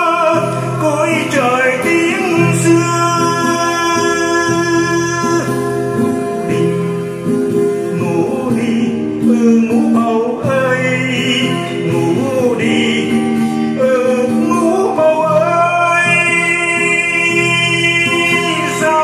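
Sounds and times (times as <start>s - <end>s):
acoustic guitar: 0.0s - 19.0s
man singing slow song: 0.0s - 19.0s.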